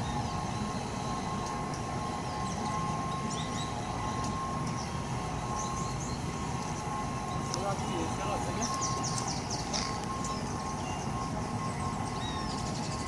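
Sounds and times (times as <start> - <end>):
amusement ride rumble: 0.0 - 13.0
steady whine: 0.0 - 13.0.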